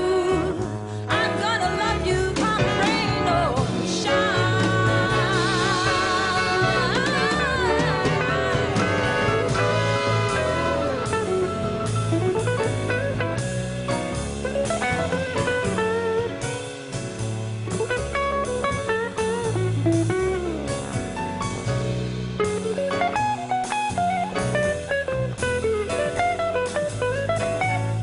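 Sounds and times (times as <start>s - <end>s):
jazz bass and drums: 0.0s - 28.0s.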